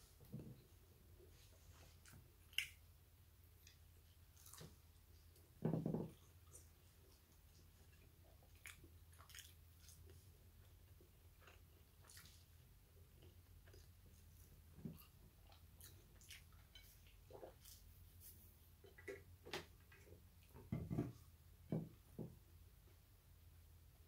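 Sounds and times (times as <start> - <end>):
faint chewing: 0.1 - 2.9, 3.5 - 21.2.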